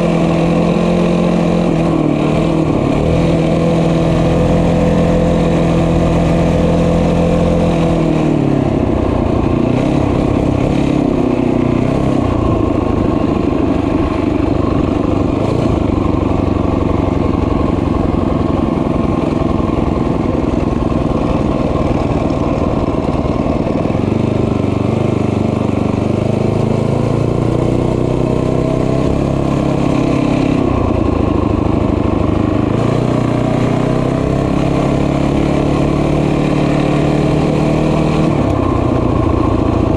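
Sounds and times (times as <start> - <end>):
small motorbike engine running: 0.0 - 39.9.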